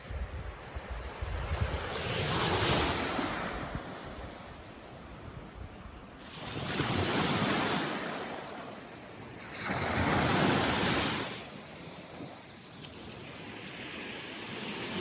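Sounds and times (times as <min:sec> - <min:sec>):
small waves washing ashore: 0:00.0 - 0:15.0.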